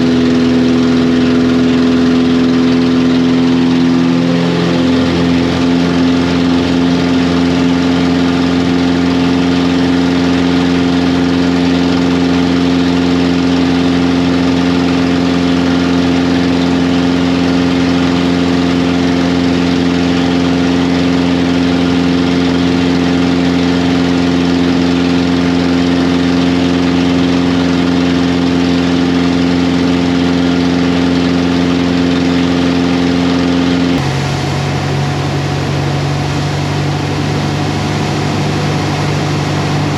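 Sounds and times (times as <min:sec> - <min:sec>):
light aircraft engine and propeller drone: 0:00.0 - 0:39.9.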